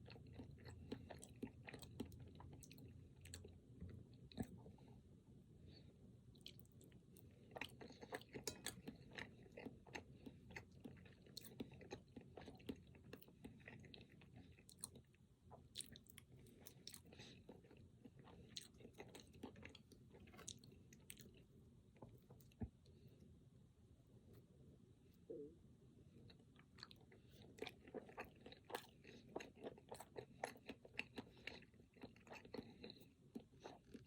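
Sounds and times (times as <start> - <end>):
close chewing mouth sounds: 0.0 - 3.6, 6.3 - 22.8, 26.2 - 34.0.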